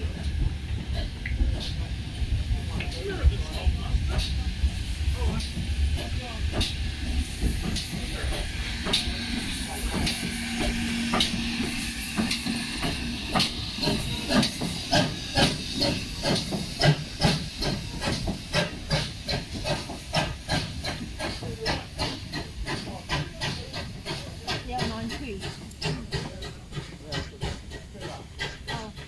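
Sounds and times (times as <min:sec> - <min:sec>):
locomotive exhaust chuffs: 0:00.0 - 0:29.0
steam locomotive hissing steam: 0:00.0 - 0:29.0.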